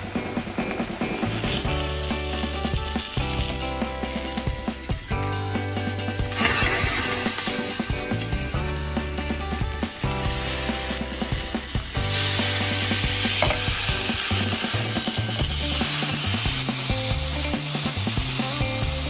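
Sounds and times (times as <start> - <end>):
bacon sizzling on a griddle: 0.0 - 19.0.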